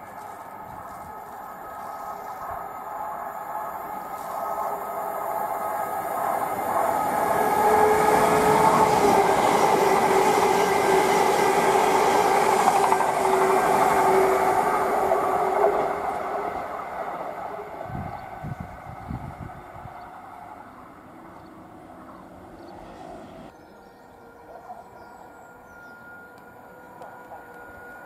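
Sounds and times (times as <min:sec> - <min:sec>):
train motor whine: 0:00.0 - 0:23.5, 0:25.5 - 0:28.0
train wheels rumbling on rails: 0:00.0 - 0:23.5.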